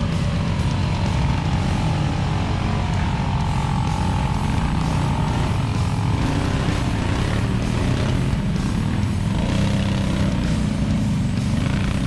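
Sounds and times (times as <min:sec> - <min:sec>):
atv engines running: 0:00.0 - 0:12.0.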